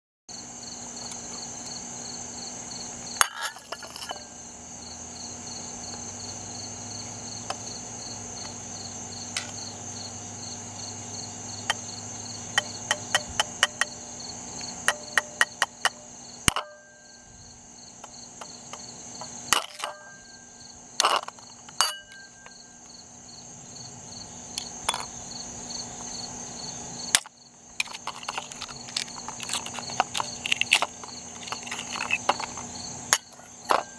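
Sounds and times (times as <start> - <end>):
insects chirring: 0.3 - 33.9.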